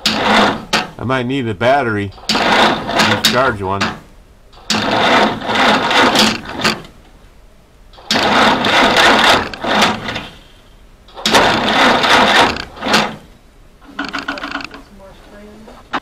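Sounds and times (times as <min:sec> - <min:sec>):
engine starter cranking: 0:00.0 - 0:01.1, 0:02.1 - 0:07.1, 0:07.9 - 0:14.9.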